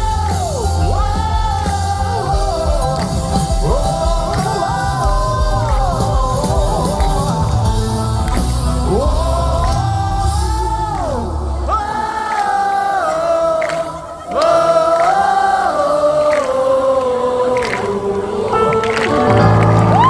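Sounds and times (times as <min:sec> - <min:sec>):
gospel band playing: 0:00.0 - 0:20.0.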